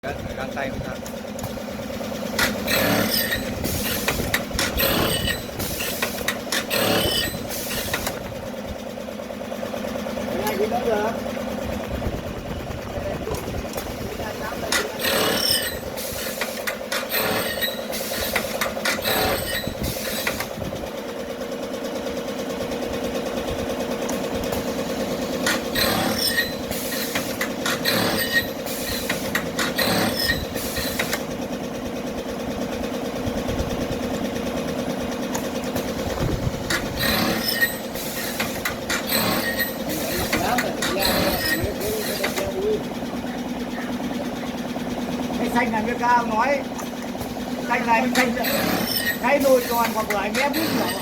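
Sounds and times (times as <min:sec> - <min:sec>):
fast mechanical chatter: 0:00.0 - 0:51.0
sharp working strokes: 0:00.0 - 0:51.0
machine tool motor hum: 0:00.1 - 0:51.0.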